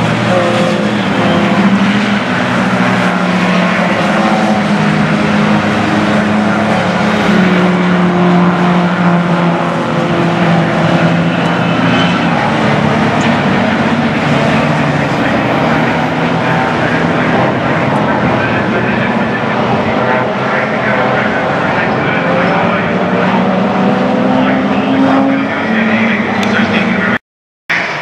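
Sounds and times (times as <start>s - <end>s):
racing car engines: 0.0s - 28.0s.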